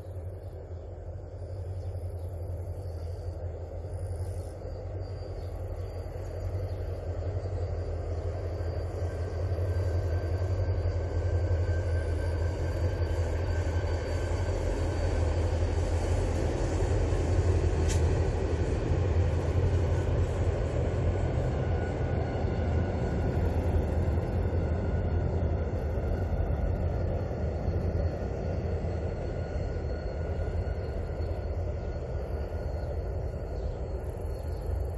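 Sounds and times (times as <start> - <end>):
train rumbling over steel bridge: 0.0 - 34.9.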